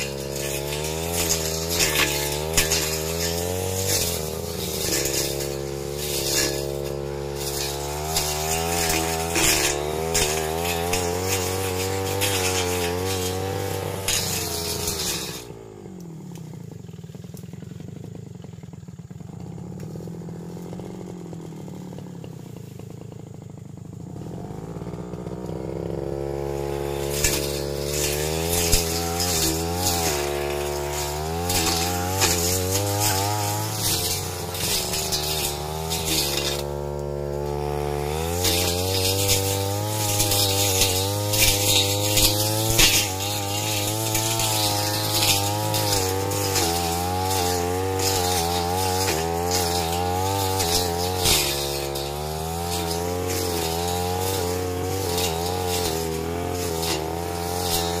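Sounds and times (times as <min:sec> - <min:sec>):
brush cutter engine revving: 0:00.0 - 0:58.0.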